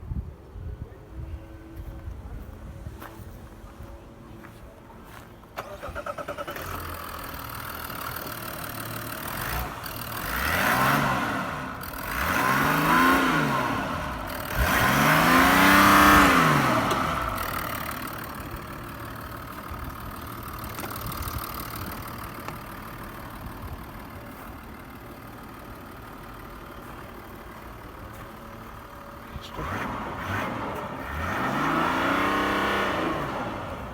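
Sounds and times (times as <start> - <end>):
engine idling and revving: 1.6 - 33.9
diesel engine starting: 4.4 - 33.9.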